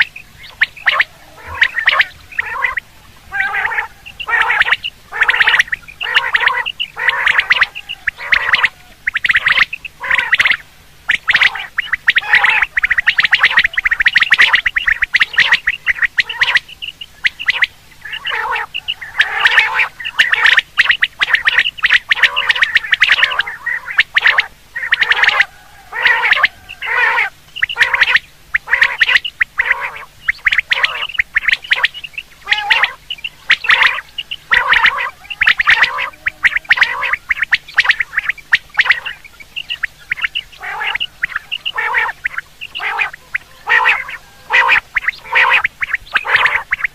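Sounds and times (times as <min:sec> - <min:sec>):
quail calling: 0:00.0 - 0:46.9.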